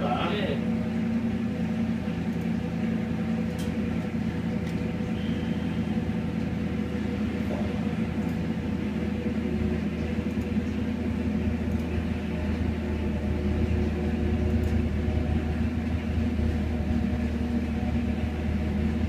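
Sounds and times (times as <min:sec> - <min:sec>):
engine idling low hum: 0:00.0 - 0:19.0.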